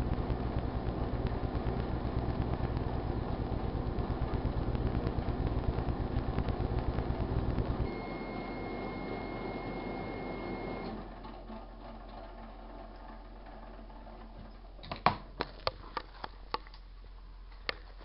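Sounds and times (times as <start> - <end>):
microwave oven humming: 0.0 - 14.8.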